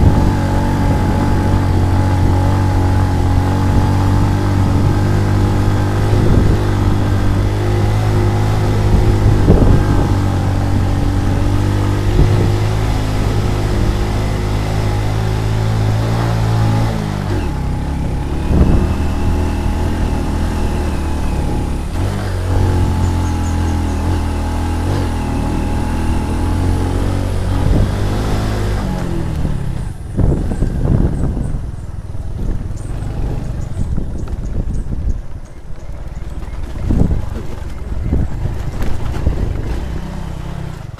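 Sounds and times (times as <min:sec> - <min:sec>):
knocks and rattles on dirt track: 0:00.0 - 0:40.9
motor scooter engine running: 0:00.0 - 0:40.9
wind over microphone: 0:00.0 - 0:40.9.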